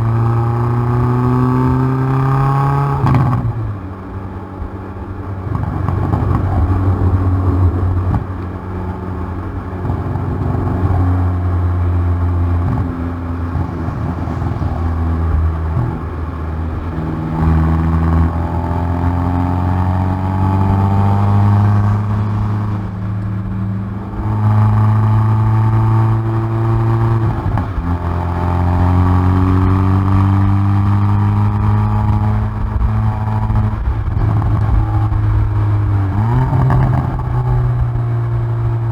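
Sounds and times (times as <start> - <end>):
car engine at full throttle: 0.0 - 38.9.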